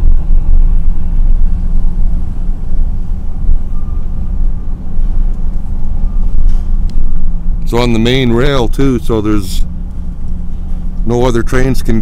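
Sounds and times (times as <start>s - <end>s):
constant low hum: 0.0s - 12.0s
engine idling: 0.0s - 12.0s.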